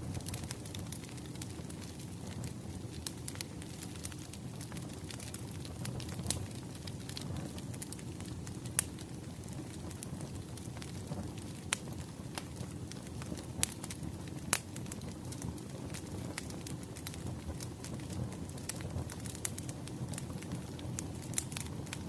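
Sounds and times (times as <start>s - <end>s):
flames rumbling: 0.0s - 22.0s
wood crackling and popping: 0.0s - 22.0s.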